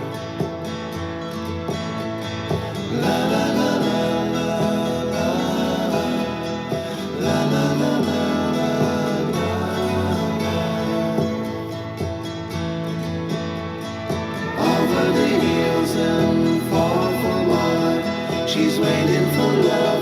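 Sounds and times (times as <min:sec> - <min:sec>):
acoustic guitar song with vocals: 0:00.0 - 0:20.0.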